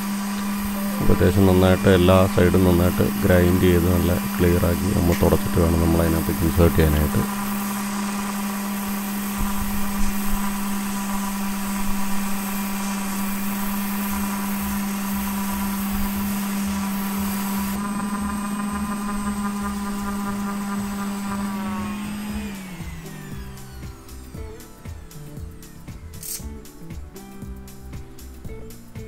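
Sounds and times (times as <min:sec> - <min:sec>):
grinder spinning down: 0:00.0 - 0:26.4
angle grinder grinding: 0:00.0 - 0:26.8.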